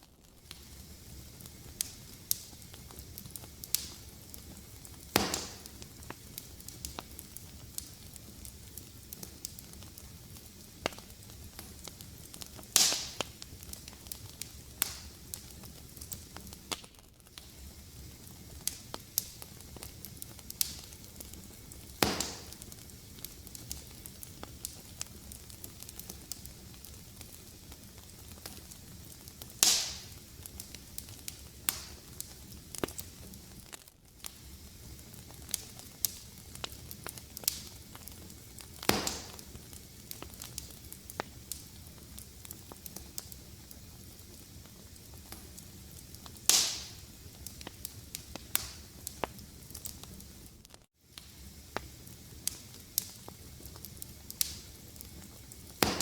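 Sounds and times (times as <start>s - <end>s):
fire pops: 0.0s - 56.0s
wood fire crackling: 0.0s - 56.0s.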